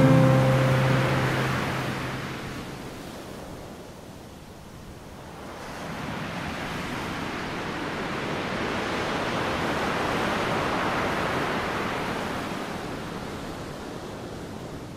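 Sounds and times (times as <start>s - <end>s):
sea surf on rocky shore: 0.0s - 14.9s.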